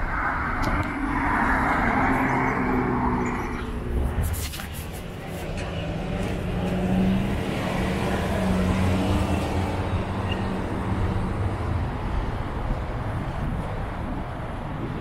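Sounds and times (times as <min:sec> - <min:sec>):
street traffic noise: 0:00.0 - 0:15.0
vehicle engine humming: 0:00.0 - 0:15.0.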